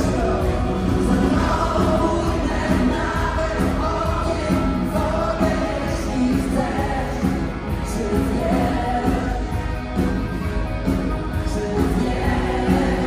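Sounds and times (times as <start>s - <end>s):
voices singing: 0.0s - 10.0s, 11.2s - 13.0s
live pop-rock band: 0.0s - 13.0s.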